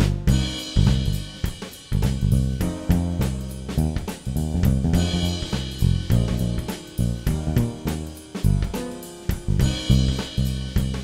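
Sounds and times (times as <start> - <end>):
instrumental music with drums and bass: 0.0 - 11.0.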